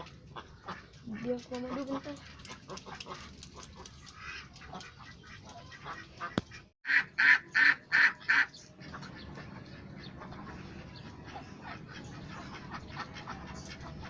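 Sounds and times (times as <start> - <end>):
duck quacking: 0.0 - 14.0.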